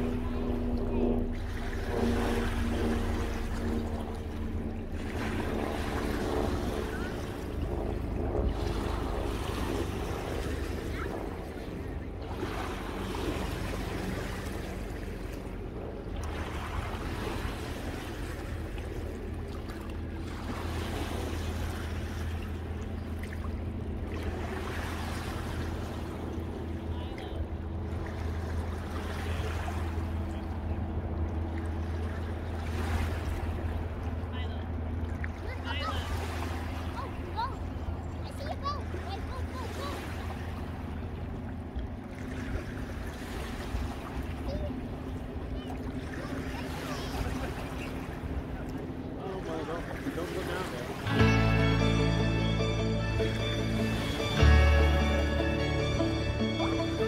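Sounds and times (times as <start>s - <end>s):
boat engine drone: 0.0s - 57.0s
steady low hum: 0.0s - 57.0s
waves lapping at shore: 0.0s - 57.0s.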